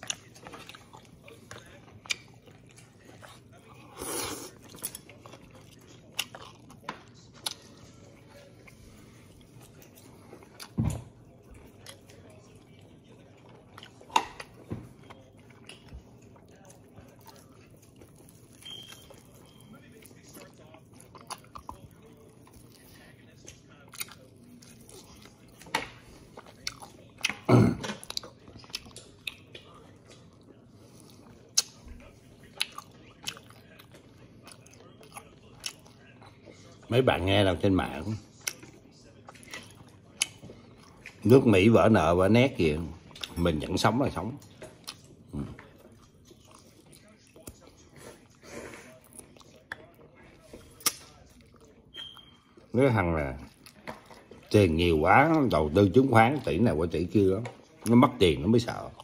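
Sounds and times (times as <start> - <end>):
chewing and slurping: 0.0 - 36.9, 38.2 - 41.4, 44.4 - 52.7, 53.4 - 54.9.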